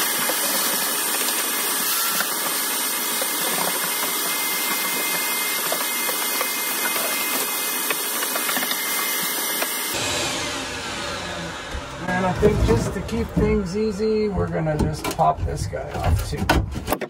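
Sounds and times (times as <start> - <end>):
vacuum cleaner running: 0.0 - 14.7.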